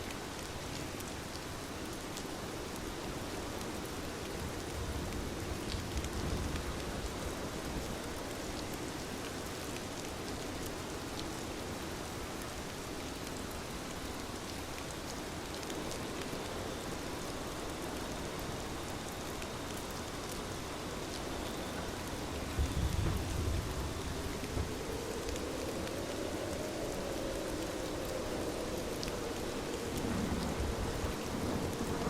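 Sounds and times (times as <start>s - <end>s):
rain on a window: 0.0s - 32.0s
sharp ticks of raindrops: 0.0s - 32.0s.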